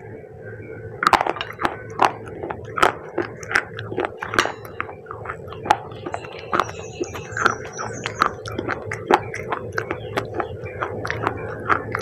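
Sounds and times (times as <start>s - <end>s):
person chewing crunchy food: 0.9s - 12.0s.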